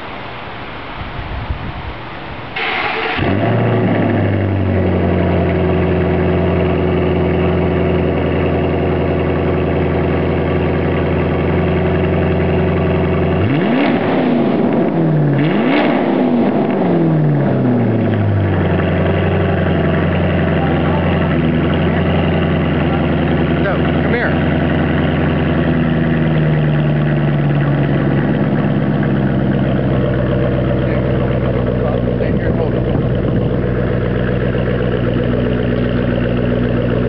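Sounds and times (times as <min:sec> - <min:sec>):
car engine idling: 0:00.0 - 0:37.0
car engine revving: 0:02.6 - 0:37.0.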